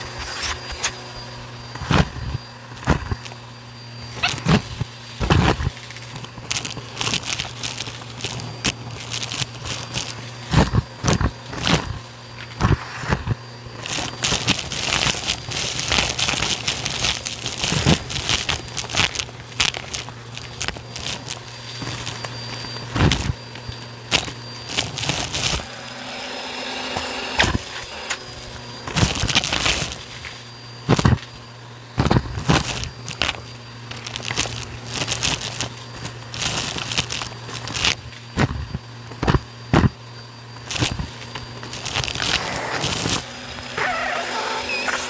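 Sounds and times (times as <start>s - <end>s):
vacuum cleaner running: 0.0s - 37.9s, 40.6s - 45.0s
debris crackling into vacuum: 1.7s - 40.0s, 40.6s - 45.0s
sharp cracks: 4.1s - 31.4s, 32.0s - 39.9s, 40.6s - 45.0s.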